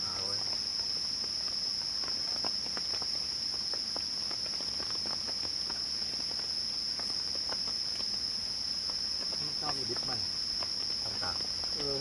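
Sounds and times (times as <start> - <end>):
crickets shrilling: 0.0 - 12.0.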